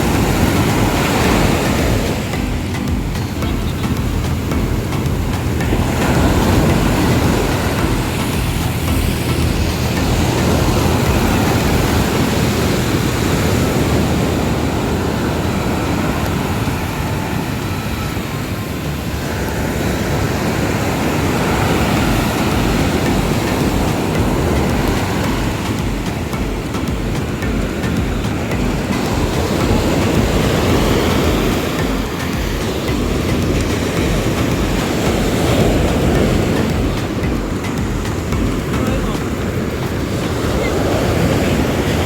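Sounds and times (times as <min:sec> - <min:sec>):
ocean surf breaking: 0:00.0 - 0:42.0
wind buffeting microphone: 0:00.0 - 0:42.0.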